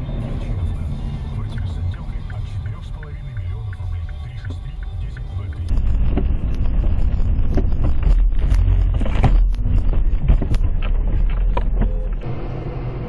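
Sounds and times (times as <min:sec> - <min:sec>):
car rumbling in motion: 0:00.0 - 0:13.0.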